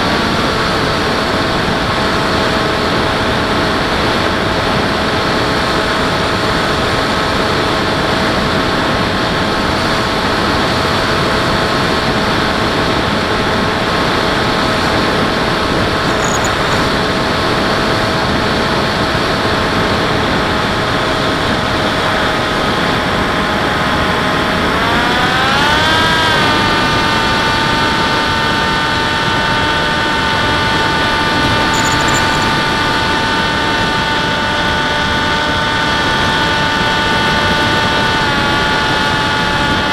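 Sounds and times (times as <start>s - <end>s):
model airplane motor and propeller: 0.0s - 39.9s.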